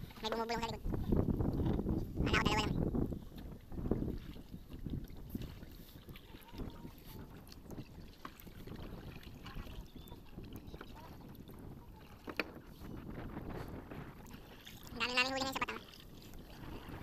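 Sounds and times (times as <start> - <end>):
line hauled out of water: 0.0 - 17.0
water lapping against canoe hull: 0.0 - 17.0.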